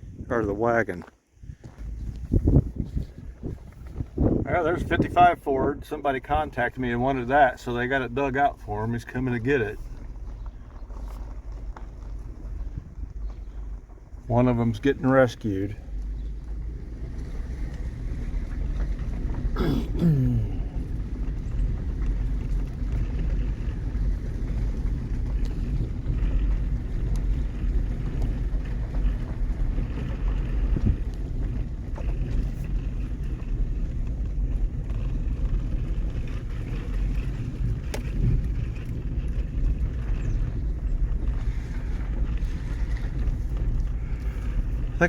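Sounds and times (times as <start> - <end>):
truck engine and road rumble: 0.0 - 45.0.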